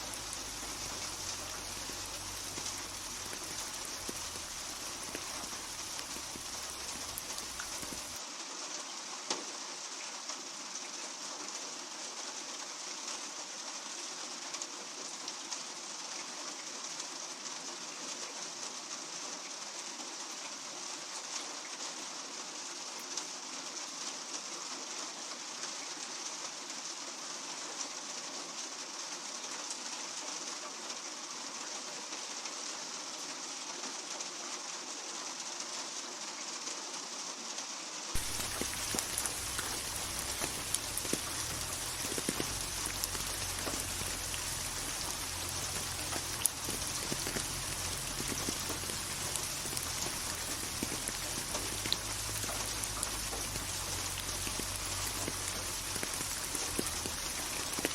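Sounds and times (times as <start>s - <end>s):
rain on a hard surface: 0.0s - 57.9s.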